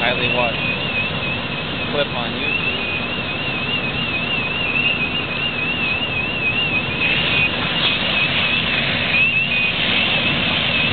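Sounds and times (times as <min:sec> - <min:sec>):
fire engine running: 0:00.0 - 0:10.9
fire hose stream rushing: 0:00.0 - 0:10.9
warbling electronic alarm: 0:00.0 - 0:10.9.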